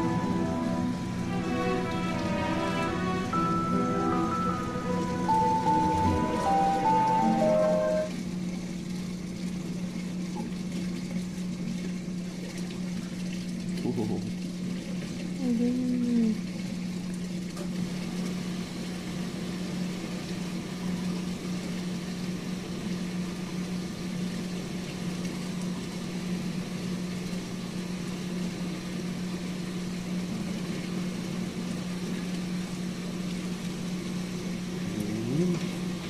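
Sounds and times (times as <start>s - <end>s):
aquarium pump humming: 0.0s - 36.0s.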